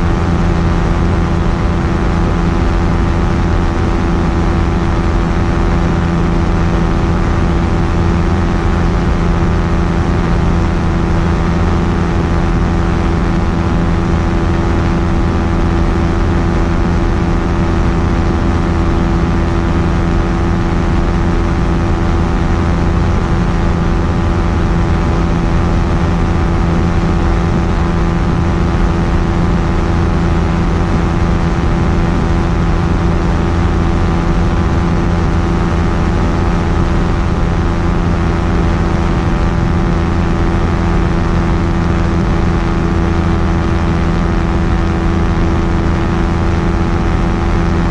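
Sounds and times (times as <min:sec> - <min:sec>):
aircraft engine drone: 0:00.0 - 0:47.9.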